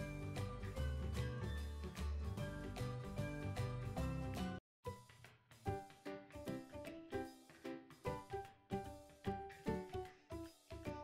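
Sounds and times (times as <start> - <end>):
light background melody: 0.0 - 11.0.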